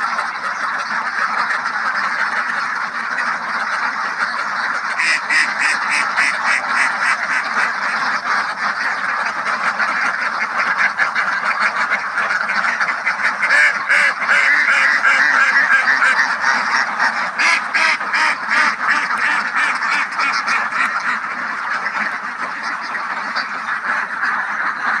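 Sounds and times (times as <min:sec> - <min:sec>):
ducks quacking: 0:00.0 - 0:25.0.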